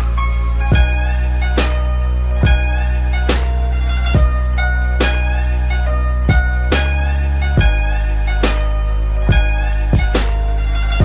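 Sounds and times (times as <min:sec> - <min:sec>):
low thumping beats: 0:00.0 - 0:11.0
sustained notes over bass: 0:00.0 - 0:11.0.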